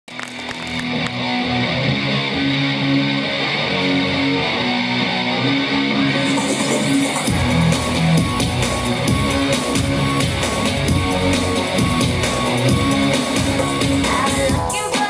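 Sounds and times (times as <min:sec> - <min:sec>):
strummed guitar music: 0:00.6 - 0:14.1.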